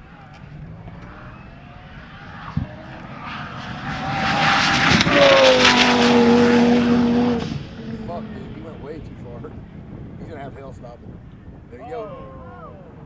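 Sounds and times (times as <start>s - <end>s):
sports car engine at full throttle: 0.0s - 11.7s
wind and tyre noise: 0.0s - 13.0s.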